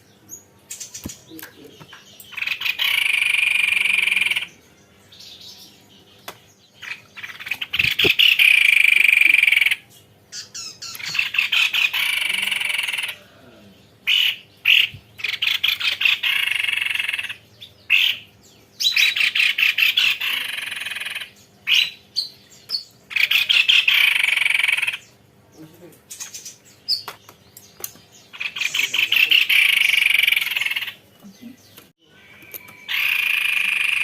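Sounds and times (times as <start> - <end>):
bird singing rolling trills: 0.0 - 34.0.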